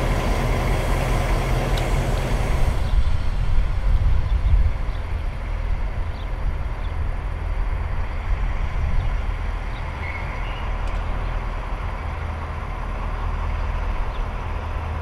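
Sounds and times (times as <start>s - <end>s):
diesel locomotive engine throbbing: 0.0s - 15.0s.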